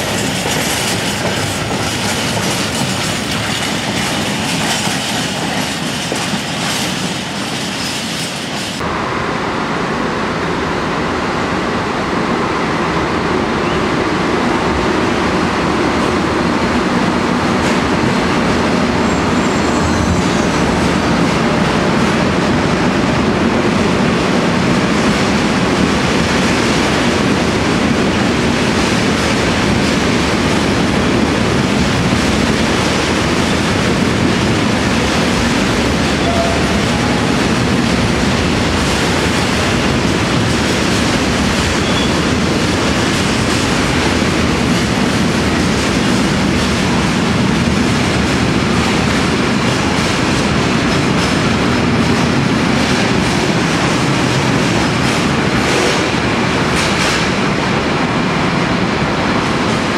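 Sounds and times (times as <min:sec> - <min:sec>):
freight train wheels rattling: 0:00.0 - 0:08.8, 0:16.8 - 0:59.9.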